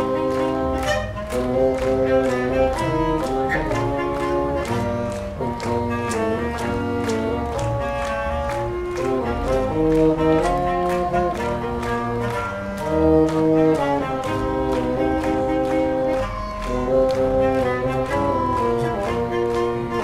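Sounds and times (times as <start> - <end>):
wind band playing a march: 0.0 - 20.0.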